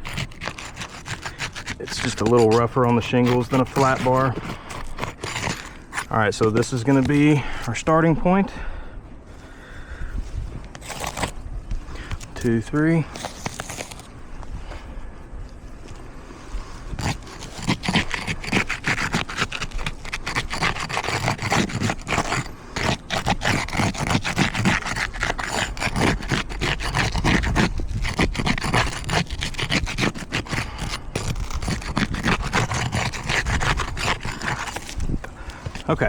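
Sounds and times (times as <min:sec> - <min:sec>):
metal tool scraping shingles: 0:00.0 - 0:08.0, 0:10.7 - 0:11.4, 0:12.0 - 0:14.2, 0:16.9 - 0:36.0.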